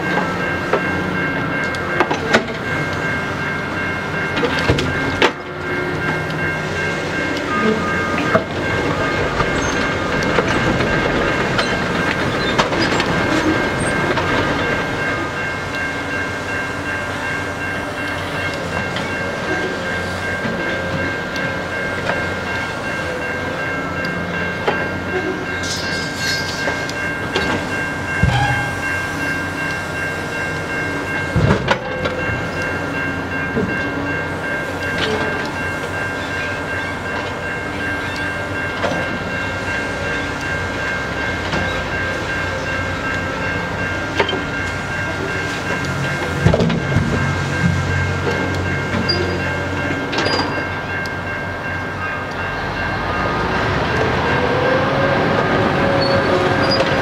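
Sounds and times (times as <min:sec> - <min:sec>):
work train high whine: 0:00.0 - 0:57.0.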